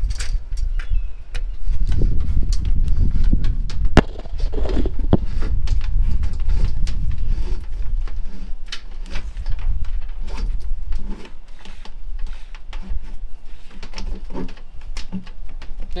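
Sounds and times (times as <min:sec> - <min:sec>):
cable scraping and rustling: 0:01.5 - 0:16.0.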